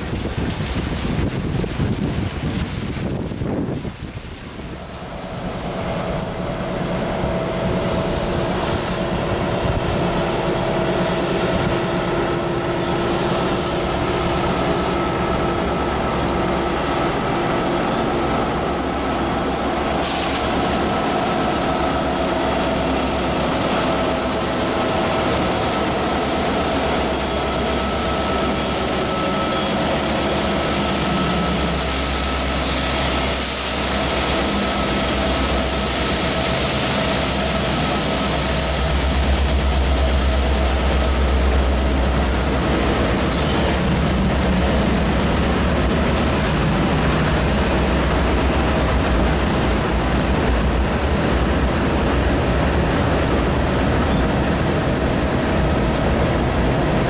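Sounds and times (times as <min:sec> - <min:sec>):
diesel locomotives rumbling past: 0:00.0 - 0:57.0.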